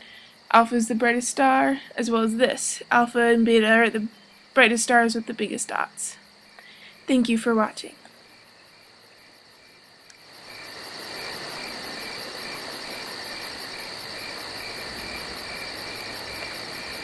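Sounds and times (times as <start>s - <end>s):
crickets chirping: 0.0s - 17.0s
high continuous insect trill: 0.0s - 17.0s.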